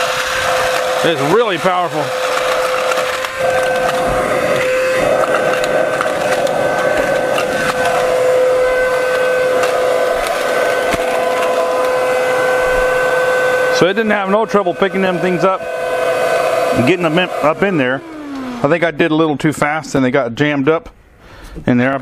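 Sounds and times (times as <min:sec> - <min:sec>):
vacuum cleaner motor whining: 0:00.0 - 0:20.0.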